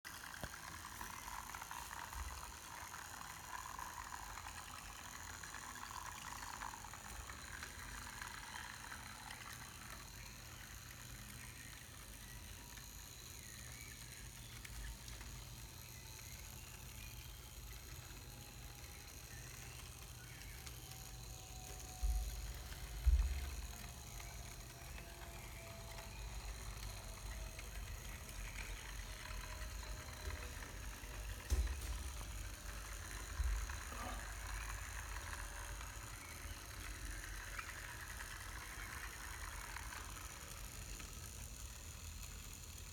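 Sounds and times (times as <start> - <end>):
small electric motor whining: 0.1 - 42.9.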